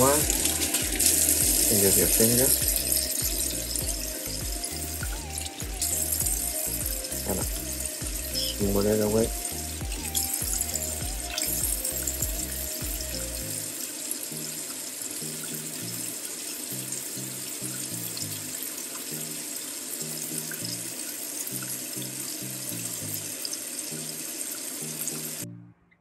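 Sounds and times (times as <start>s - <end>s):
tap water running into a sink: 0.0s - 25.4s
background music bass notes: 0.0s - 26.0s.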